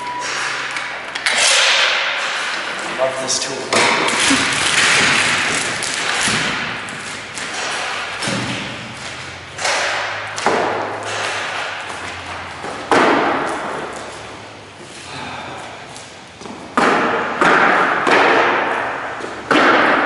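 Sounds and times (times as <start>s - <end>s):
heavy thuds echoing in large room: 0.0s - 20.0s.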